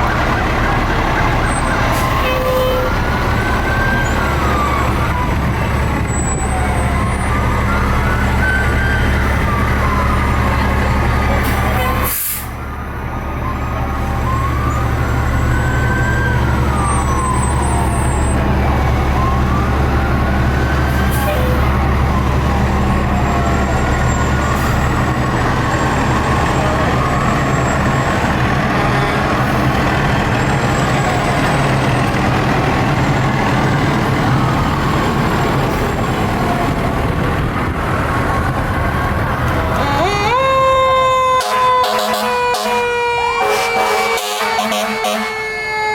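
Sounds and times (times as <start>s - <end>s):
diesel engine rumble: 0.0s - 45.9s
fire truck sirens wailing: 0.0s - 45.9s.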